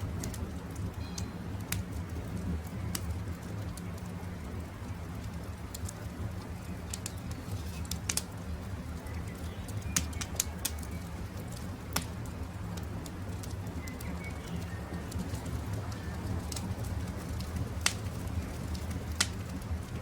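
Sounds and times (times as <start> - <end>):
campfire crackling and popping: 0.0 - 20.0
low rumble of burning wood: 0.0 - 20.0.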